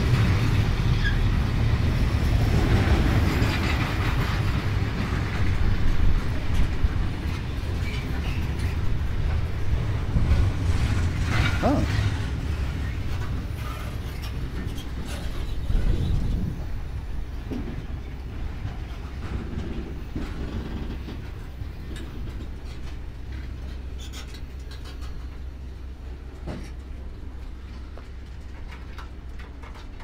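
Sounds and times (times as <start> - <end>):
freight train rumbling past: 0.0 - 30.0
wheels clicking over rail joints: 0.0 - 30.0.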